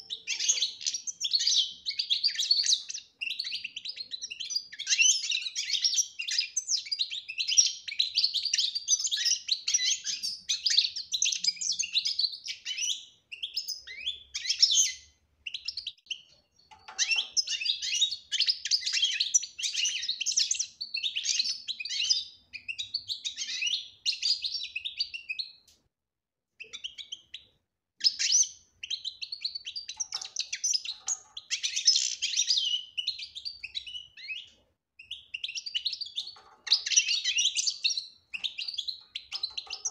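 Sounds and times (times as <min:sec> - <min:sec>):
finch singing chirps and trills: 0:00.0 - 0:25.7, 0:26.6 - 0:39.9.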